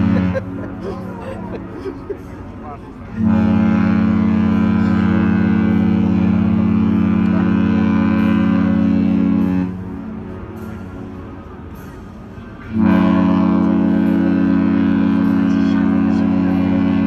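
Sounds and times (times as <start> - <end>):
ship horn deep blast: 0.0 - 17.0.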